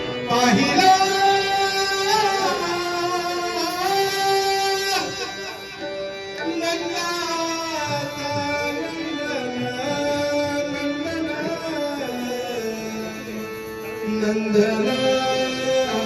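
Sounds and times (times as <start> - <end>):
devotional song melody: 0.0 - 16.0.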